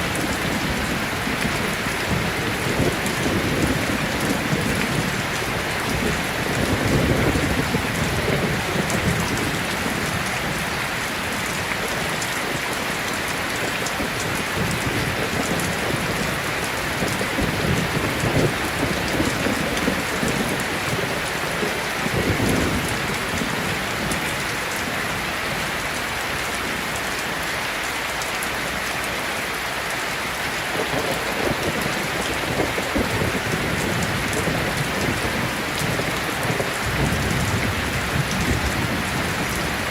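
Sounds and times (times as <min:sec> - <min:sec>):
thunder rumbling: 0:00.0 - 0:25.8, 0:30.7 - 0:39.9
heavy rain pouring: 0:00.0 - 0:39.9.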